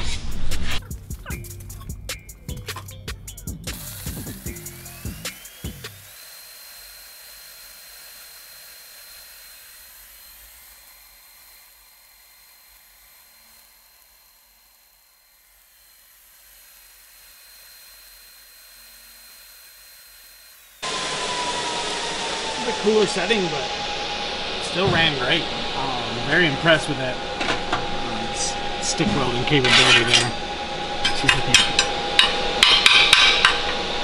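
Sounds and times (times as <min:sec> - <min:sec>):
welding arc hissing with high whine: 0:03.7 - 0:34.0.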